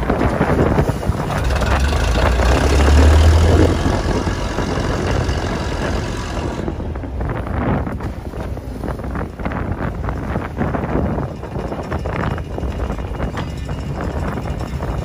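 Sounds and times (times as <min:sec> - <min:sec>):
boat engine running: 0:00.0 - 0:15.0
water rushing along hull: 0:00.0 - 0:15.0
wind buffeting microphone: 0:00.0 - 0:15.0.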